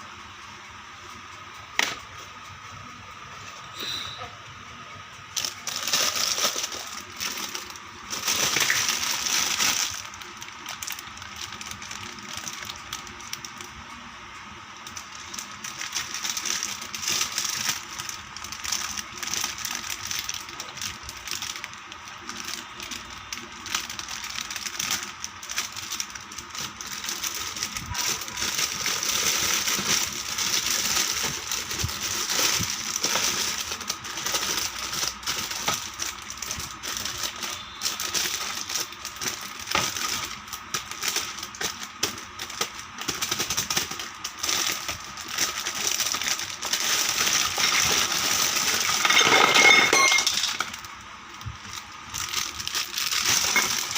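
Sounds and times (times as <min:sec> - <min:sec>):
packaging crinkling: 0:05.3 - 0:14.0, 0:14.6 - 0:53.9
plastic toy pieces clattering: 0:05.4 - 0:13.0, 0:14.9 - 0:50.9, 0:52.1 - 0:53.9.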